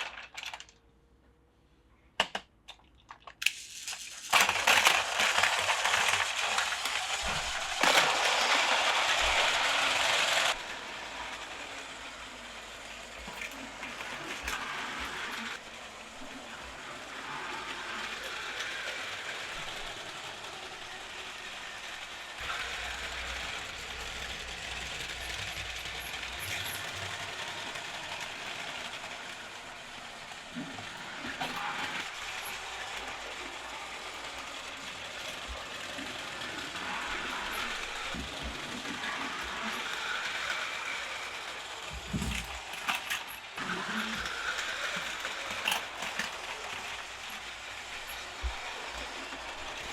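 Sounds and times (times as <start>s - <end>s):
toy train motors whirring: 0.0s - 0.8s, 2.2s - 49.9s
toy train wheels clattering: 0.0s - 0.8s, 2.2s - 49.9s.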